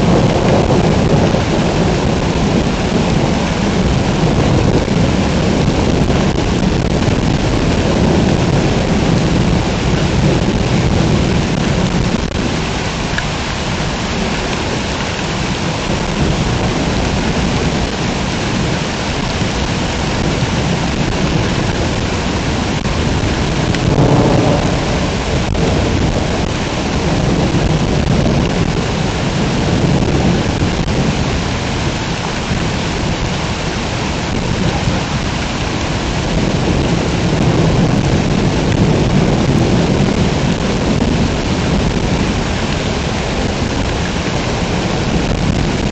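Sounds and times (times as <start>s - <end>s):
heavy rain pouring: 0.0s - 45.9s
low rolling thunder: 0.0s - 45.9s.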